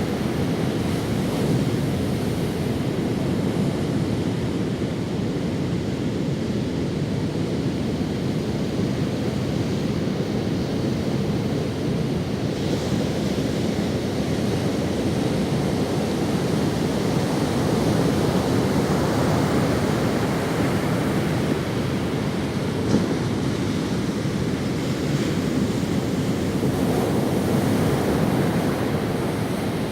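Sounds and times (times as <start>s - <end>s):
ocean waves washing on sand: 0.0s - 29.9s.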